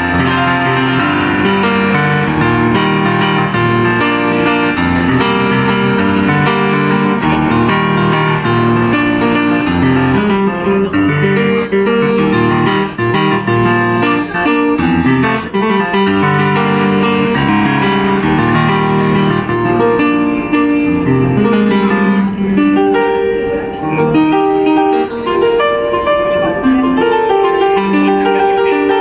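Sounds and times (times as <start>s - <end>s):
grand piano playing: 0.0s - 29.0s.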